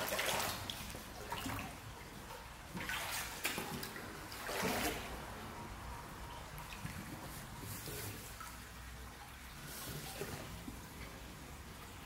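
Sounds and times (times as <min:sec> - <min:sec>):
stream water trickling: 0:00.0 - 0:12.0
water splashes: 0:00.0 - 0:12.0.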